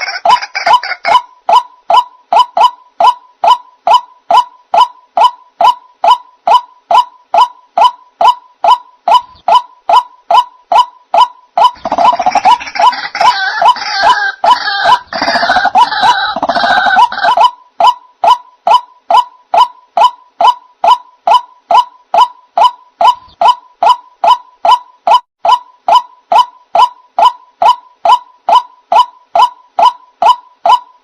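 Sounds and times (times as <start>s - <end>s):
waterhen calling: 0.0s - 30.9s
harsh overlapping bird calls: 0.0s - 31.0s.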